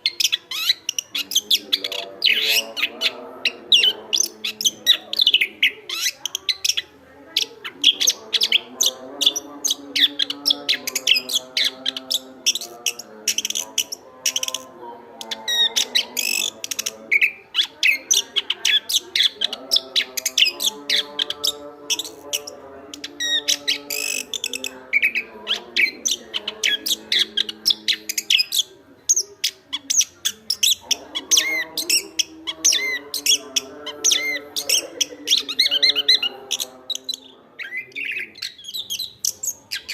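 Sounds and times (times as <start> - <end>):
thrush singing: 0.0 - 39.9.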